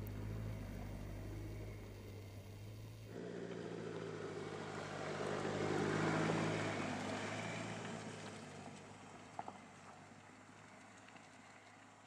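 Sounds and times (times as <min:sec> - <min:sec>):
diesel car engine passing: 0:00.0 - 0:11.7.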